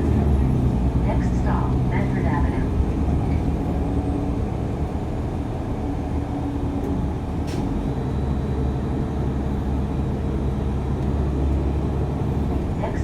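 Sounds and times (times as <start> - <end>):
transit vehicle rumbling: 0.0 - 13.0.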